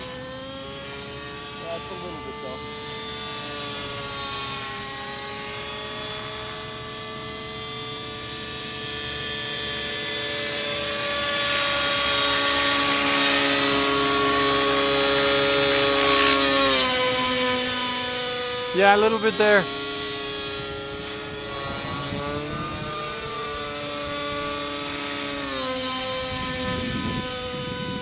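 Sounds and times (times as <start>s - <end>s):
rc helicopter engine whine: 0.0s - 28.0s.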